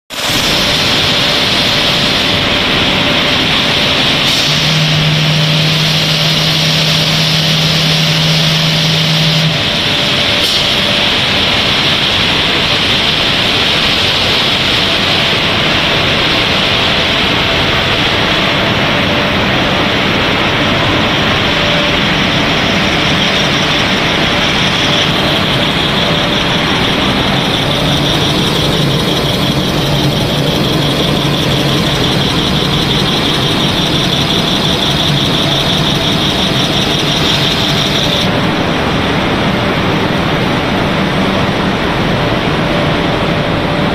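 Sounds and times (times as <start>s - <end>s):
production line machinery hissing: 0.1s - 43.9s
steady machine hums: 0.1s - 43.9s.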